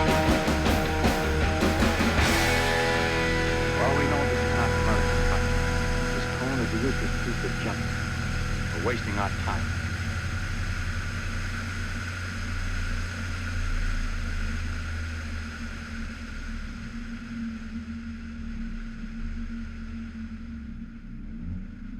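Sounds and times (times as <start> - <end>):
car engine and road noise: 0.0 - 21.9.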